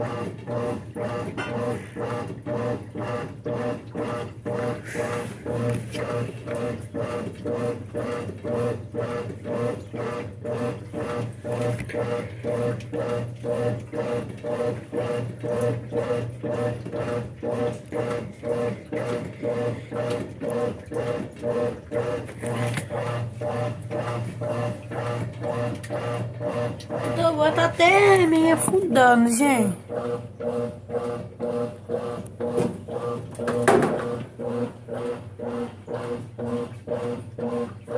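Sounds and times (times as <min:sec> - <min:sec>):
washing machine running: 0:00.0 - 0:37.9.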